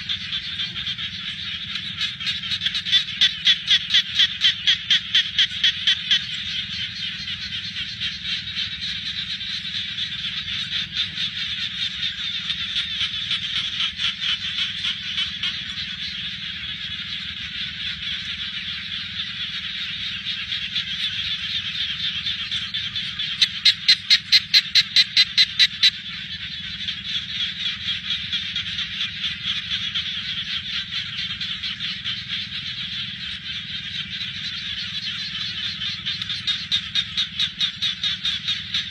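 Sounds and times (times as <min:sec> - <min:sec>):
frog chorus trilling: 0:00.0 - 0:38.9
nearby frog pulsing call: 0:00.0 - 0:38.9.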